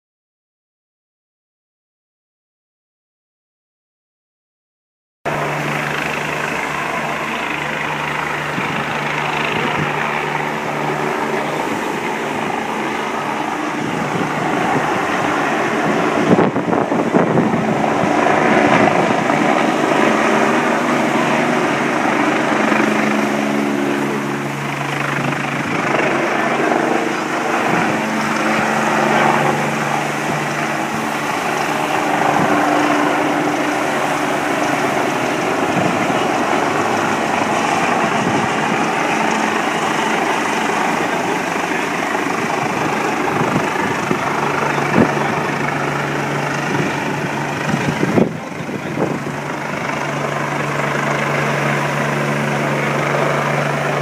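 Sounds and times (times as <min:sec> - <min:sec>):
helicopter flying low overhead: 0:05.3 - 0:54.0.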